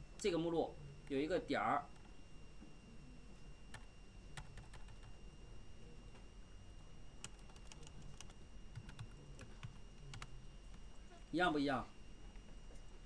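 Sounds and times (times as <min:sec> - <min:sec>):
faint high-pitched electrical whine: 0:00.0 - 0:13.0.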